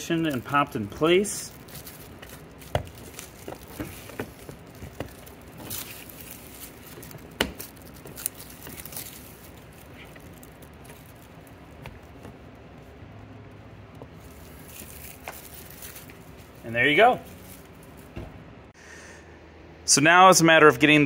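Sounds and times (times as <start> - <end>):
plastic film crinkling: 0.0 - 13.0, 13.8 - 18.2.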